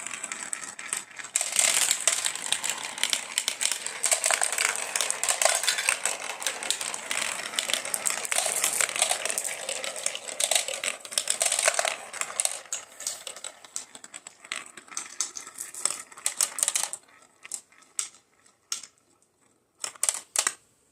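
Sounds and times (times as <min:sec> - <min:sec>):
marbles clattering down a run: 0:00.0 - 0:20.5.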